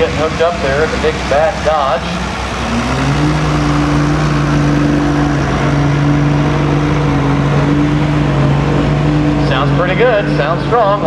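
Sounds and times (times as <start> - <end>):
diesel truck engine under full load: 0.0 - 11.0.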